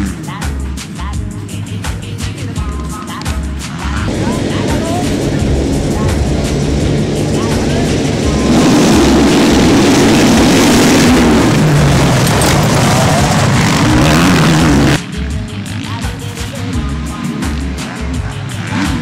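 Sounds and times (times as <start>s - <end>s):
background music with steady beat: 0.0s - 19.0s
motorcycle engines revving: 0.0s - 19.0s.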